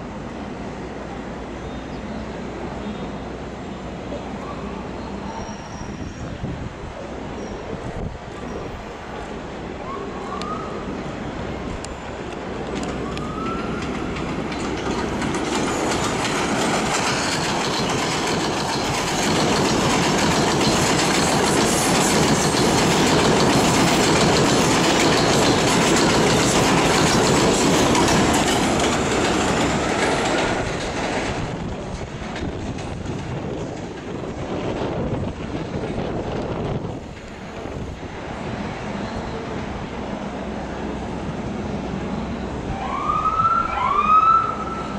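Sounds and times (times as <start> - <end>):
train passing on steel track: 0.0 - 44.9.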